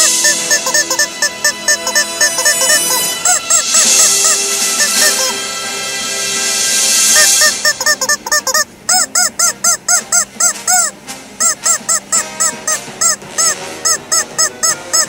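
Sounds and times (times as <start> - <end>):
rubber chicken toy squeaks: 0.0 - 5.4, 7.1 - 15.0
faint music: 0.0 - 15.0.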